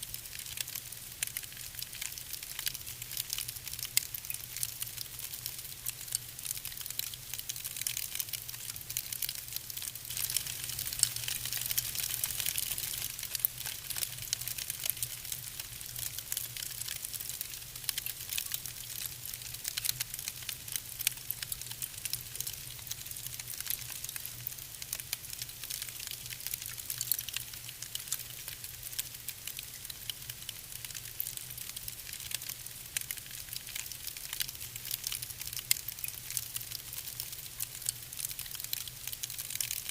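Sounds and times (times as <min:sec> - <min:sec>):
soft fire hiss: 0:00.0 - 0:39.9
wood fire crackling: 0:00.1 - 0:39.9.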